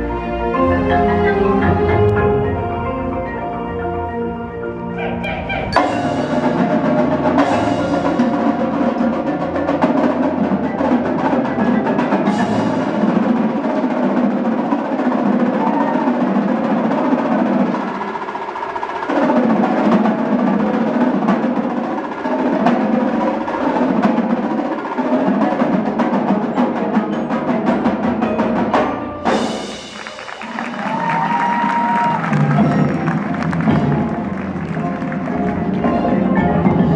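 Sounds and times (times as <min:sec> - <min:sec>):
percussion ensemble playing: 0:00.0 - 0:36.9
snare drum: 0:05.2 - 0:27.2, 0:27.8 - 0:36.4.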